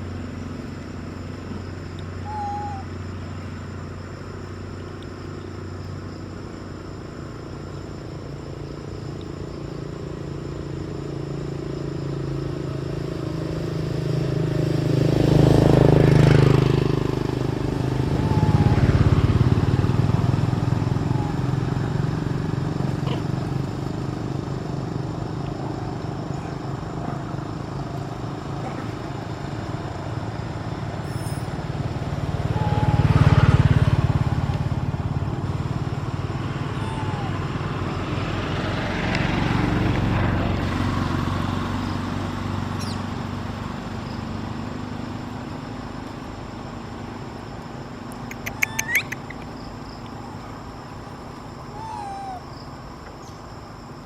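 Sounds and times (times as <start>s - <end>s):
steady engine hum: 0.0s - 54.0s
vehicles passing close by: 0.0s - 54.0s.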